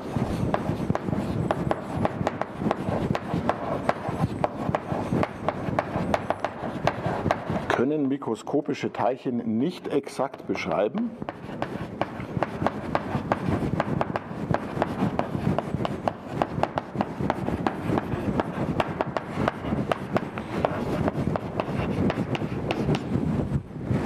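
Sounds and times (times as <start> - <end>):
chalk tapping and scraping on blackboard: 0.0 - 9.1, 9.8 - 23.2.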